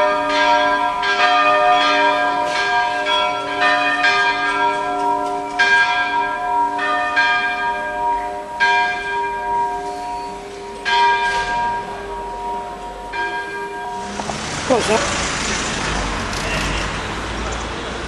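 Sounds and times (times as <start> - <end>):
church bells ringing: 0.0 - 17.2.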